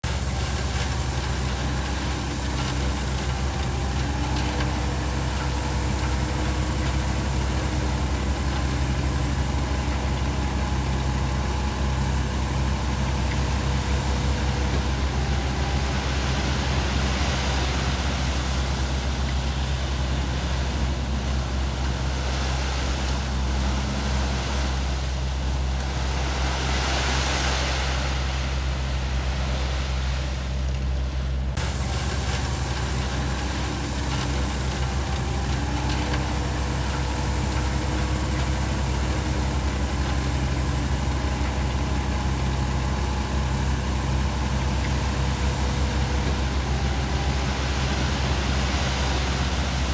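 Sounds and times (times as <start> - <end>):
heavy diesel engines running: 0.0 - 49.9.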